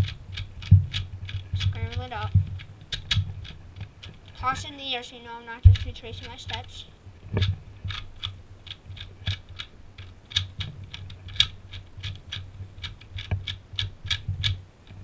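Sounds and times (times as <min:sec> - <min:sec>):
puzzle cube clicking: 0:00.0 - 0:04.6, 0:05.6 - 0:06.8, 0:07.4 - 0:15.0.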